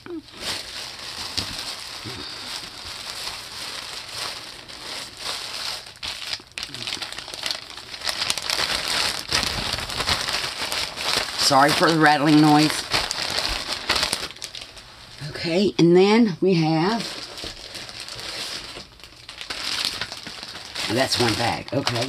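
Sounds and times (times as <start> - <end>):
plastic bag crinkling and rustling: 0.0 - 15.5, 16.6 - 22.0.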